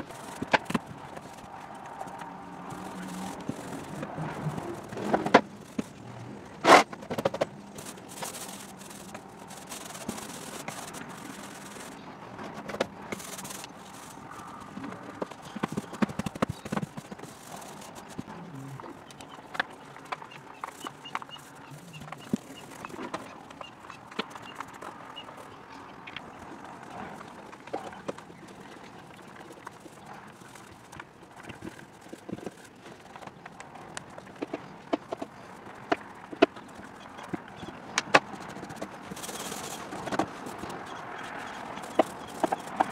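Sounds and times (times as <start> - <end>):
paint roller scraping and knocking: 0.0 - 25.5, 26.7 - 42.9.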